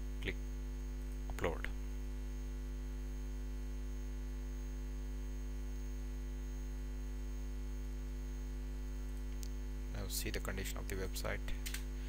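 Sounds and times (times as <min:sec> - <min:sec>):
electrical mains hum: 0:00.0 - 0:12.0
faint high whine: 0:00.0 - 0:12.0.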